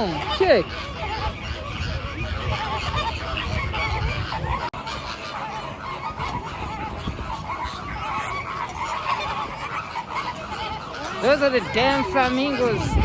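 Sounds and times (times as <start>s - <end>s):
flock of flamingos honking: 0.0s - 13.0s.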